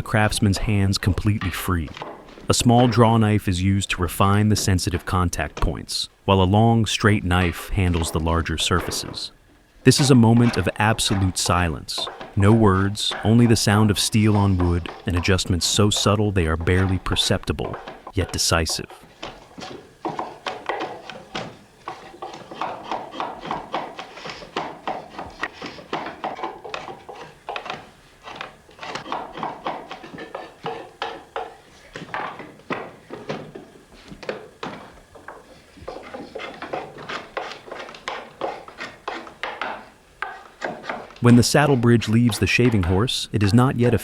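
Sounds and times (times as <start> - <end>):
knife shaving wood: 7.2 - 43.0.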